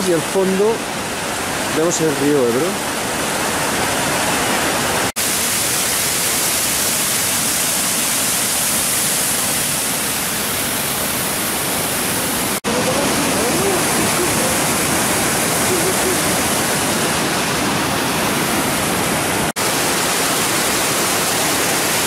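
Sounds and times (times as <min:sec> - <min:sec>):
waterfall rushing over rock: 0:00.0 - 0:22.0.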